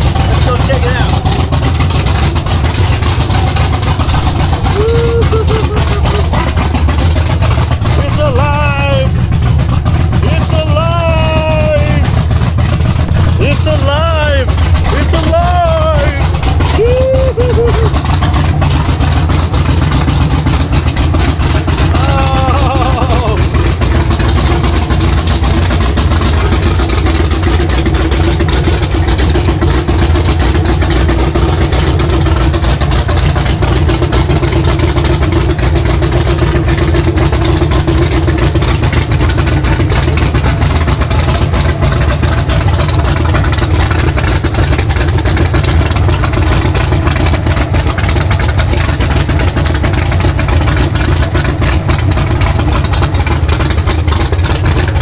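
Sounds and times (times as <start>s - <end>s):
car engine choppy idle: 0.0s - 55.0s.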